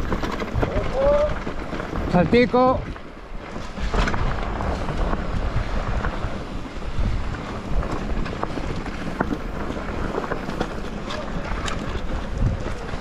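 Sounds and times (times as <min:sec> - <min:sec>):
bike tyres rumbling: 0:00.0 - 0:13.0
stones clicking and bike rattling: 0:00.0 - 0:13.0
wind rushing over microphone: 0:00.0 - 0:13.0.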